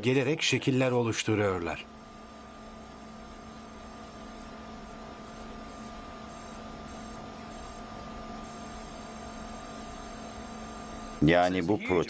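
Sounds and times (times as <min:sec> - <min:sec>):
equipment hum and hiss: 0:00.0 - 0:12.0.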